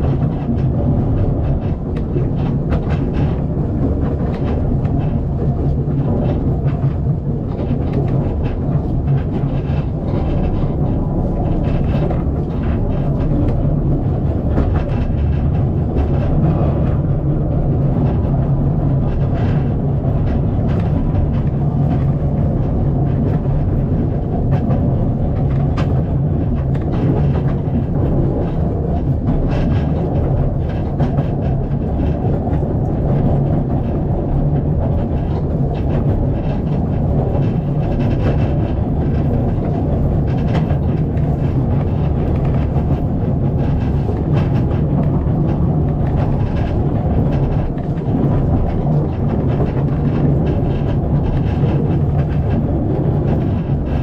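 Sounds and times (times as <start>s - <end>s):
railway carriage rumbling: 0.0s - 54.0s
wheels clicking on rails: 0.0s - 54.0s.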